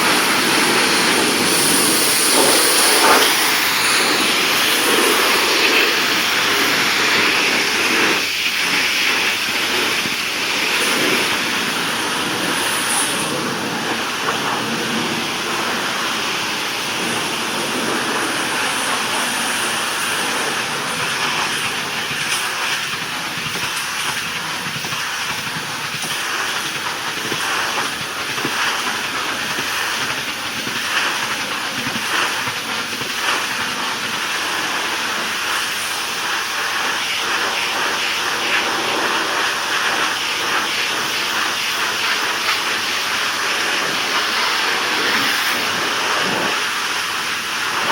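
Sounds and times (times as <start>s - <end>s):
pressure washer spraying on wood: 0.0s - 47.9s.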